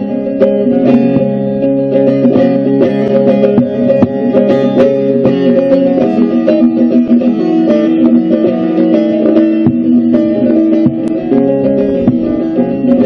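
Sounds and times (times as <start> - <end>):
plucked long-necked lute: 0.0 - 13.0.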